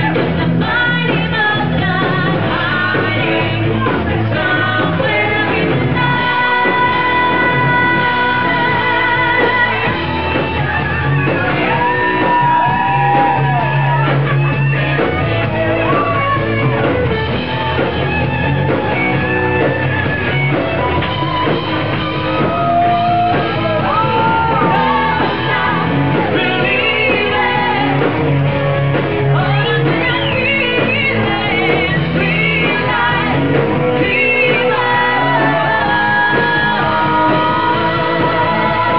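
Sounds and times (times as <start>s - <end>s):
person singing: 0.0s - 17.0s, 22.3s - 38.9s
bass guitar: 0.0s - 38.9s
drums: 0.0s - 38.9s.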